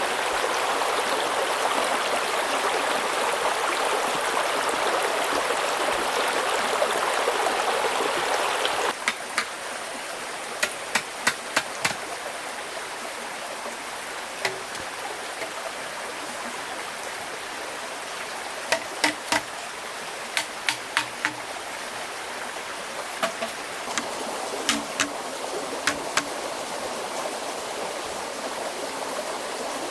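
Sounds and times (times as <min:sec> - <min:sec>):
stream rushing: 0:00.0 - 0:29.9.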